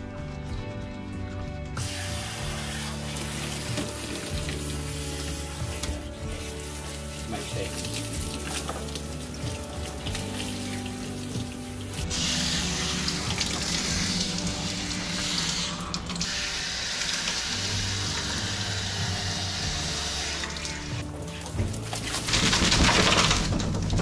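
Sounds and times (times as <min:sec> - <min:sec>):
background music with held tones: 0:00.0 - 0:24.0
water spraying hiss: 0:01.8 - 0:22.3.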